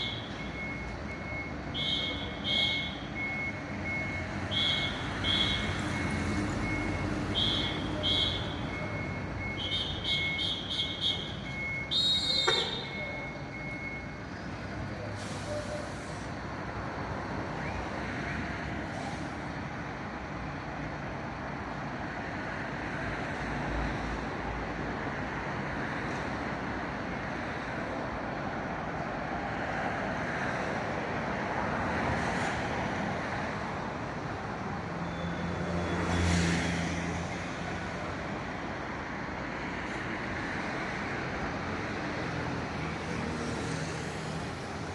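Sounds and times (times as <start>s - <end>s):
heavy vehicle engine hum: 0.0s - 44.9s
road traffic noise: 0.0s - 44.9s.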